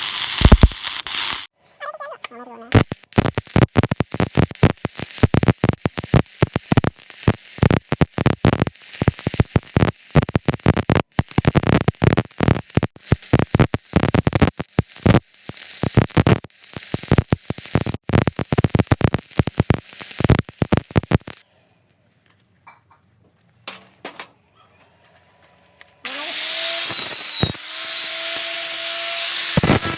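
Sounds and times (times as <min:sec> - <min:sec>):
welding arc crackling: 0:00.0 - 0:01.5, 0:02.7 - 0:21.4, 0:26.1 - 0:29.9.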